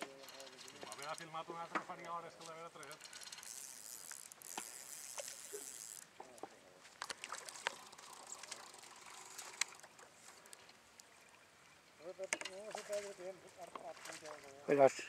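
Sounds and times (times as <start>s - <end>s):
faint water splashes and taps: 0.0s - 14.9s.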